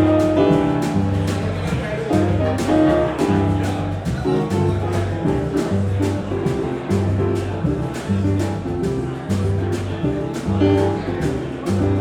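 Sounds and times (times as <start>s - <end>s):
bass notes: 0.0s - 12.0s
chords: 0.0s - 12.0s.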